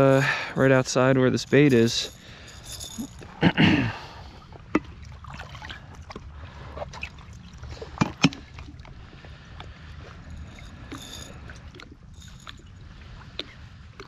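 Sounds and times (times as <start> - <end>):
steady low rumble: 0.0 - 14.0
water sloshing and splashing: 0.0 - 14.0.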